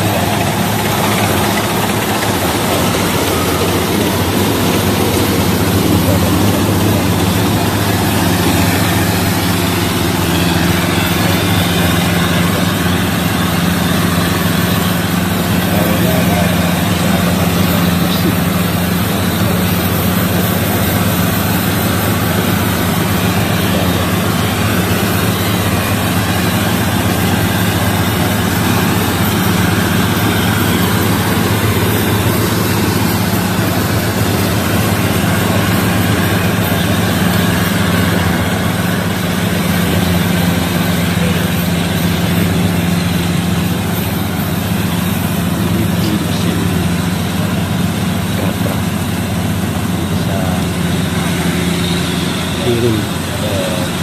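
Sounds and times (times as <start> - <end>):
combine harvester engine hum: 0.0 - 54.0.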